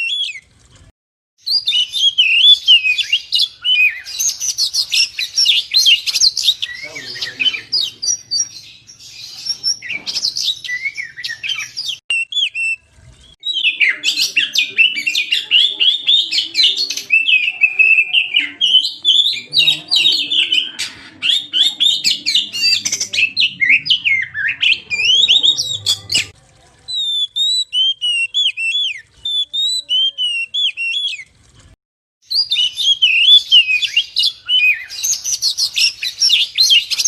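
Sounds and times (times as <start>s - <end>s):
bird singing whistles and chatter: 1.4s - 31.3s, 32.3s - 37.0s.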